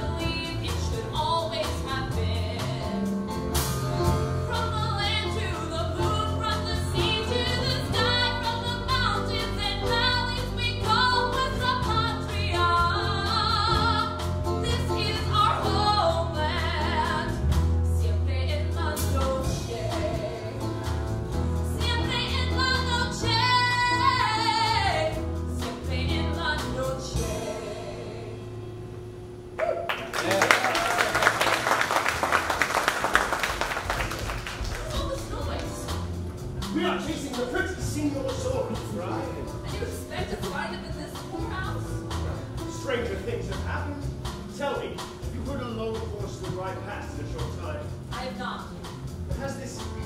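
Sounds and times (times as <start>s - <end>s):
song with instrumental accompaniment: 0.0s - 28.8s, 32.0s - 50.0s.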